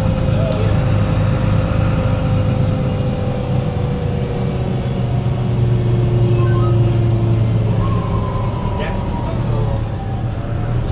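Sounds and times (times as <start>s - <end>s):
diesel bus engine idling: 0.0s - 10.9s.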